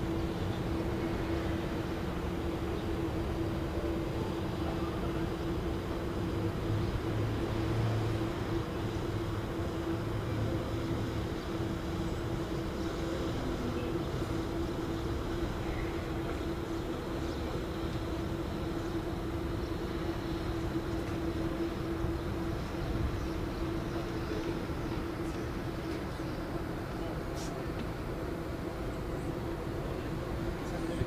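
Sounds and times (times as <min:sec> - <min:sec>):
droning mechanical hum: 0:00.0 - 0:31.0.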